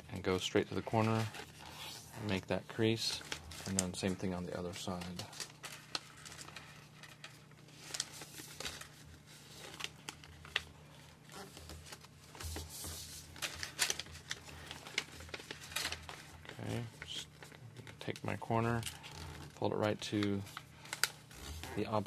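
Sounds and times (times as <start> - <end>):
paper rustling and scraping: 0.4 - 22.0.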